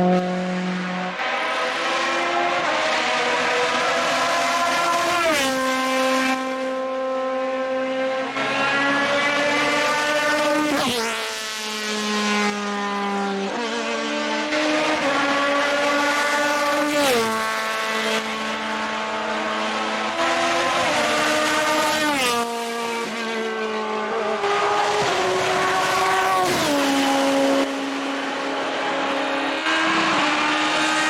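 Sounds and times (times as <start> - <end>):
race cars passing at high revs: 0.0 - 31.0.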